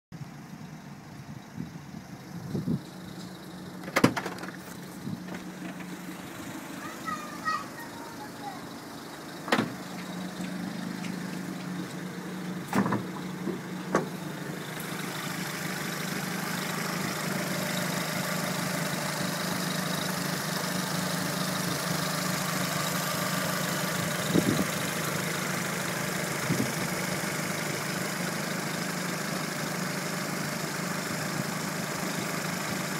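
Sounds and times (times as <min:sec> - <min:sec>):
car engine idling: 0:00.2 - 0:32.9.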